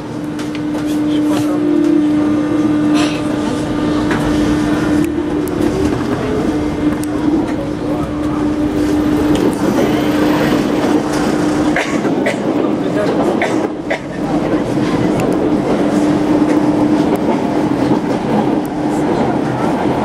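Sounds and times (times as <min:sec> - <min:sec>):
train hum: 0:00.0 - 0:20.0
steel wheels on rail: 0:00.1 - 0:20.0.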